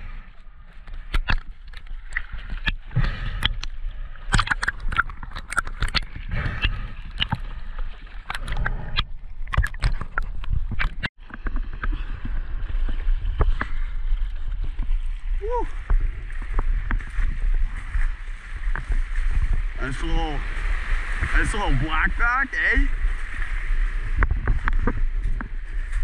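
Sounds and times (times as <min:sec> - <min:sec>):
water sloshing and gurgling: 0:00.0 - 0:26.0.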